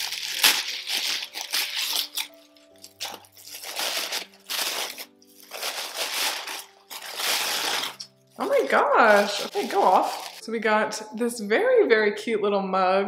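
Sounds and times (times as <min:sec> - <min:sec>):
tissue paper crinkling: 0:00.0 - 0:10.6
soft background music: 0:00.0 - 0:13.0.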